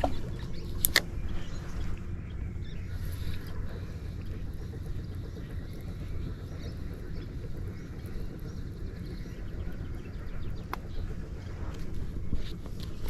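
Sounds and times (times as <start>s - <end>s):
low rumble: 0.0s - 13.0s
small birds chirping: 0.0s - 13.0s.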